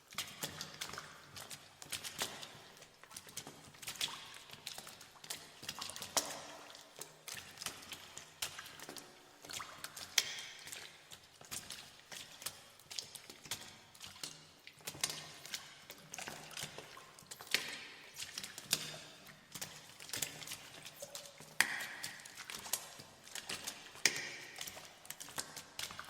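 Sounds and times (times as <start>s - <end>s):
footsteps splashing through water: 0.1s - 26.0s.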